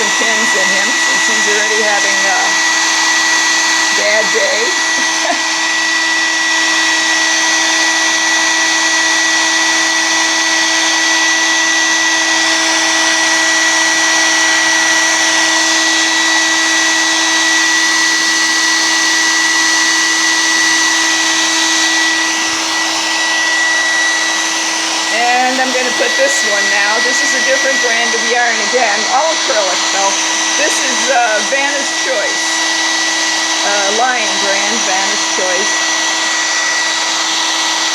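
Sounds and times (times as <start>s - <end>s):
hairdryer running: 0.0s - 37.9s.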